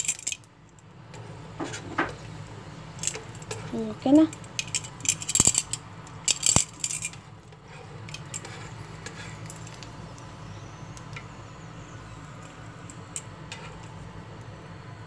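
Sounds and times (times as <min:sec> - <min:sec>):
faint frying sizzle: 0:00.0 - 0:04.9, 0:07.1 - 0:15.0.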